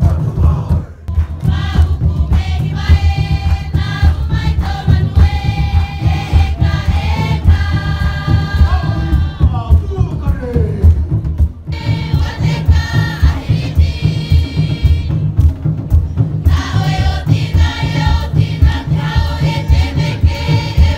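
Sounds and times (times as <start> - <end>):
group singing long held notes: 0.0 - 9.8, 11.7 - 15.4, 16.2 - 20.9
deep drumming: 0.0 - 20.9.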